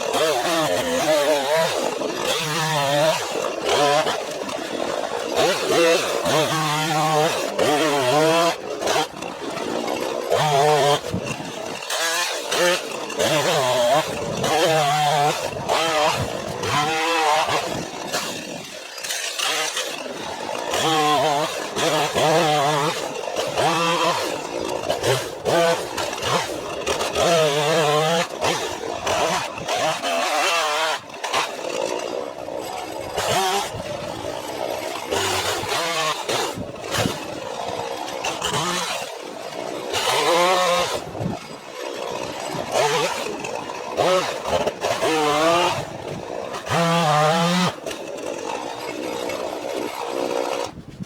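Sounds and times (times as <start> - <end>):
chainsaw revving and idling: 0.0 - 51.0.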